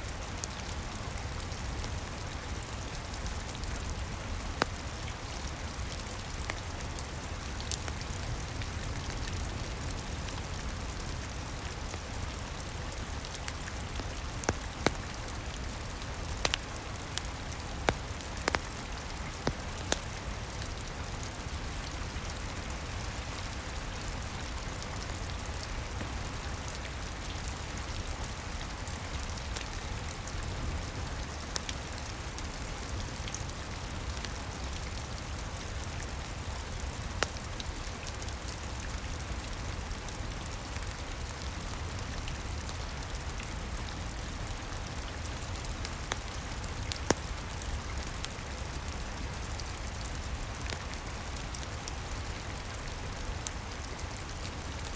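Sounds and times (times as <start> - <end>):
rain on a roof: 0.0 - 54.9
wood fire crackling: 0.1 - 54.8.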